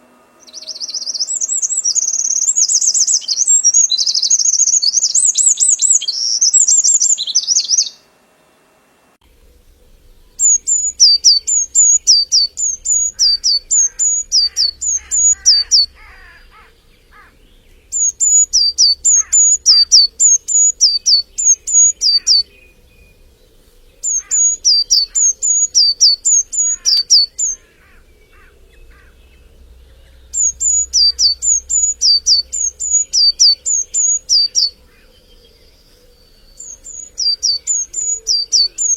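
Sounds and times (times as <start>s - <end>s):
dense high bird warbling: 0.0s - 8.0s, 9.3s - 38.9s
songbird quick descending notes: 0.0s - 8.0s, 9.3s - 38.9s.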